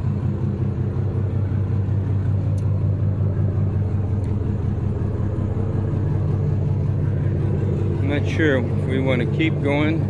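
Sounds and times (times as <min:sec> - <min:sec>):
jet boat engine rumbling: 0:00.0 - 0:10.0.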